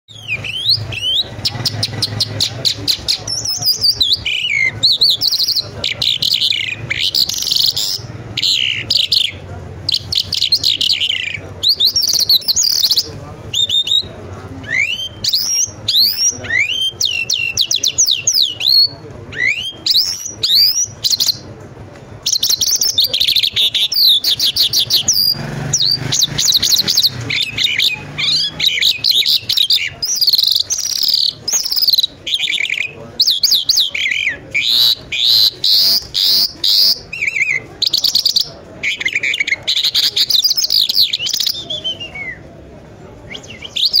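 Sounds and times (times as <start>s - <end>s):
lark singing trills: 0.1s - 21.4s, 22.2s - 42.4s, 43.3s - 44.0s.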